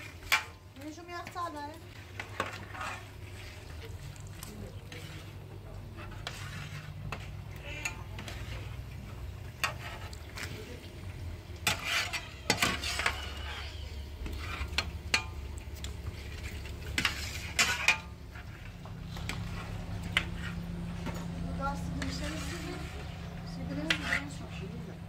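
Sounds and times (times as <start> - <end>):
metal ladles scraping in a pot: 0.0 - 25.0.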